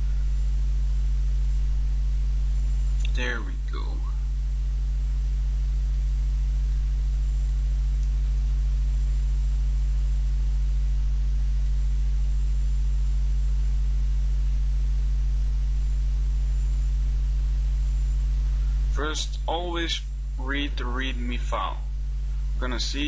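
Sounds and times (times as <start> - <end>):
faint high-pitched whine: 0.0 - 23.0
low electrical hum: 0.0 - 23.0.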